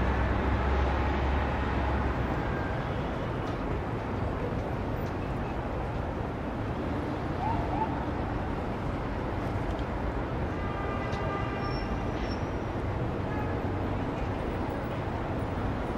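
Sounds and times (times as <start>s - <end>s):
city traffic noise: 0.0s - 15.9s.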